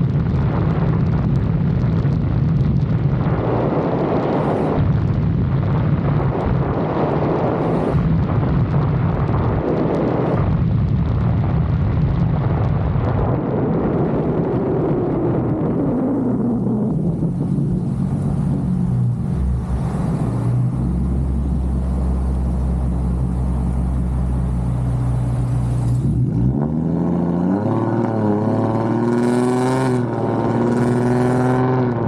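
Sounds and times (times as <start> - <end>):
car engine and road hum: 0.0 - 32.0
wind noise on microphone: 0.0 - 32.0.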